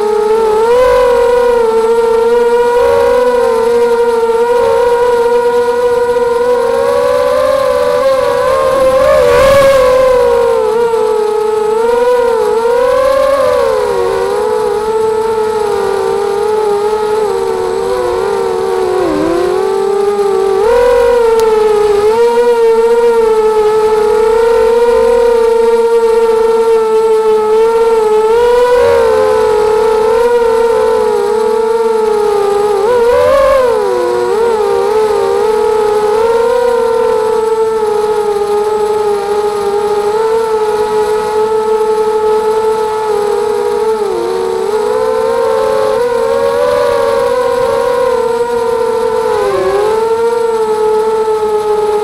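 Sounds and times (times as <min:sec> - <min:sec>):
quadcopter motors whining: 0:00.0 - 0:52.0.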